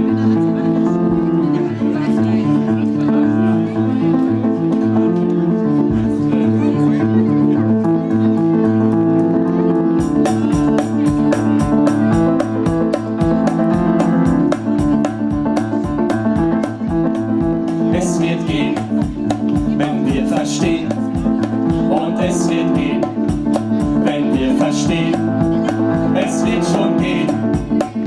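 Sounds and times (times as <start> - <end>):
live band playing: 0.0 - 28.0.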